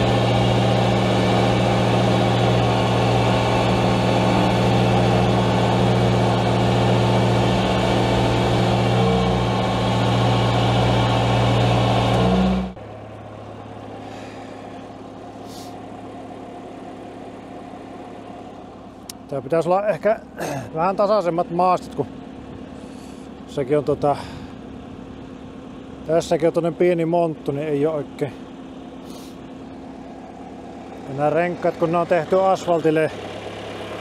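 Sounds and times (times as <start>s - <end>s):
loader engine running: 0.0s - 34.0s.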